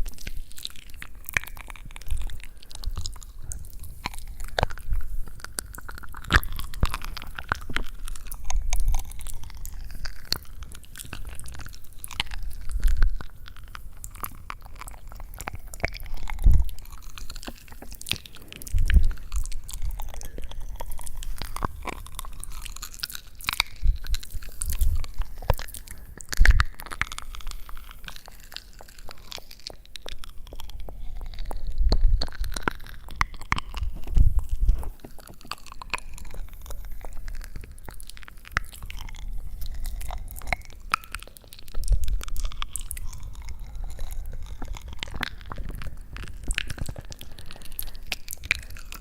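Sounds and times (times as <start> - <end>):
close crunching clicks and crackles: 0.0 - 49.0.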